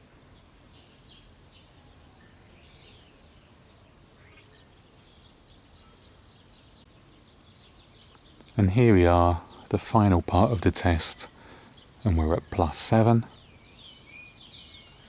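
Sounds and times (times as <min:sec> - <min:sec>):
faint birds chirping: 0:00.0 - 0:15.0
low outdoor background noise: 0:00.0 - 0:15.0.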